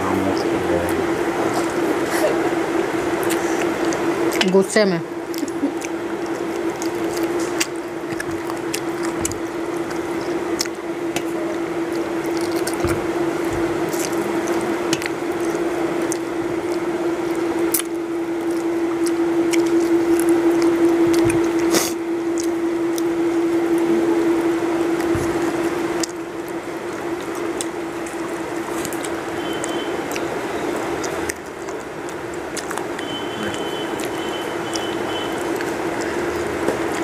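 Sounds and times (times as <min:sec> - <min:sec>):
steady hum: 0:00.0 - 0:37.0
wet chewing and lip smacking: 0:03.0 - 0:04.6, 0:05.2 - 0:37.0.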